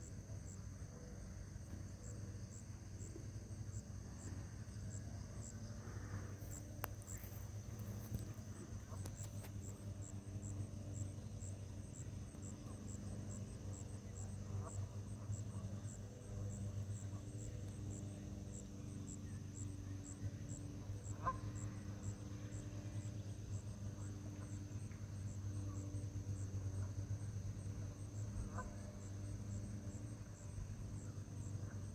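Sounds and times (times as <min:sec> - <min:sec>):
insects chirping: 0:00.0 - 0:31.9
low hum: 0:00.0 - 0:31.9.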